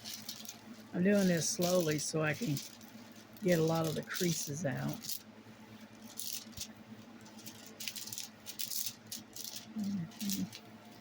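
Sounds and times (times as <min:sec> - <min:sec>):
plastic sheet crinkling: 0:00.0 - 0:11.0.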